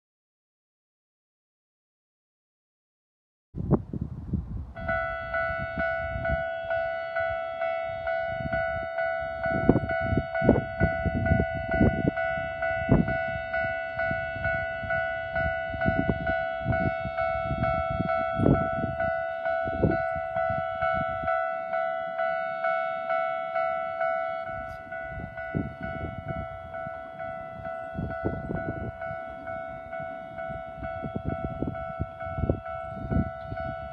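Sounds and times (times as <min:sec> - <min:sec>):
level crossing warning bell: 0:04.8 - 0:33.9.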